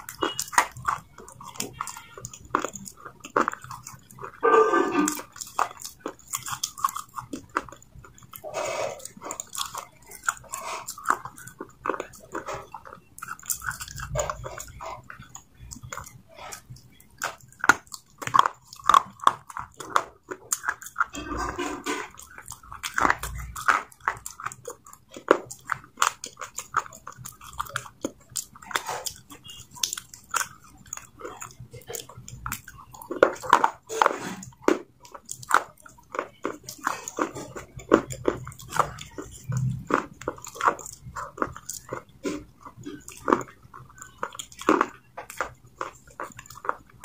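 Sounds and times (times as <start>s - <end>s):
crunchy chewing clicks: 0.0s - 47.0s.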